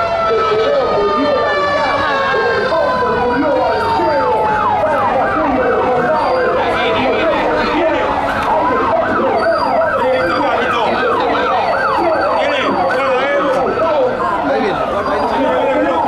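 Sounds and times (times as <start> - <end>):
sirens wailing: 0.0 - 16.0.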